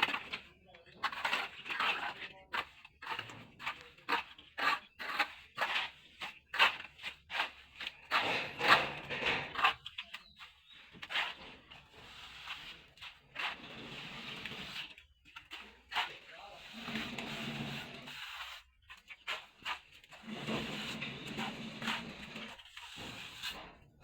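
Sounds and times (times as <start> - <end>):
trowel scraping plaster: 0.0 - 24.0.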